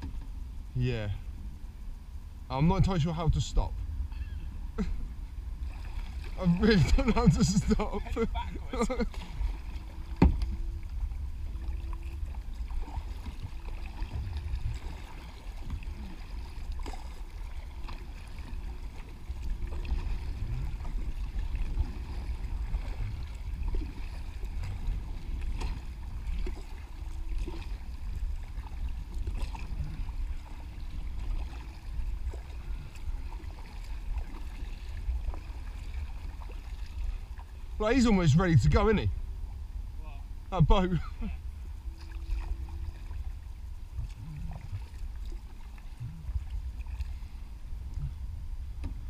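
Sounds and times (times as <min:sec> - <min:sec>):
steady low rumble: 0:00.0 - 0:49.0
water lapping on kayak hull: 0:01.2 - 0:49.0
kayak paddles dipping: 0:02.5 - 0:49.0.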